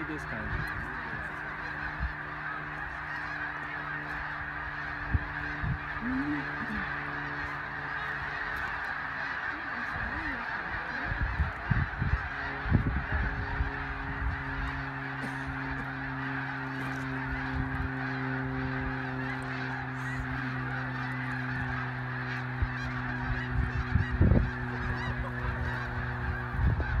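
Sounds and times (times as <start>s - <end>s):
geese honking: 0.0s - 27.0s
low rumbles: 0.0s - 27.0s
steady low hum: 0.0s - 27.0s.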